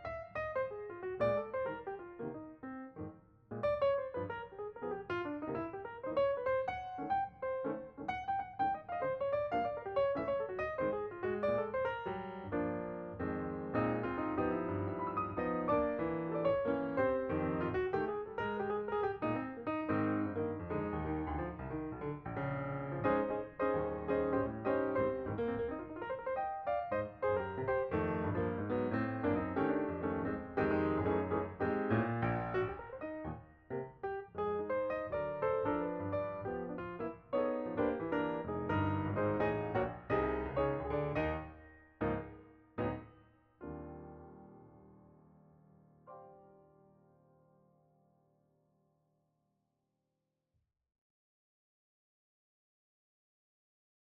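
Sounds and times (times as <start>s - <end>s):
piano music: 0.0s - 47.8s.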